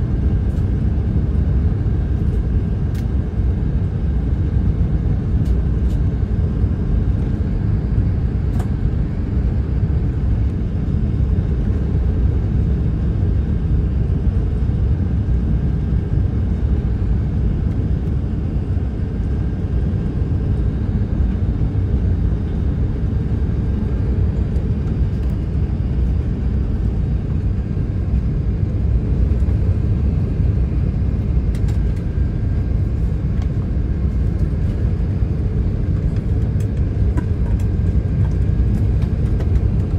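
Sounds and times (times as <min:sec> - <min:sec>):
aircraft engine rumble: 0:00.0 - 0:39.9.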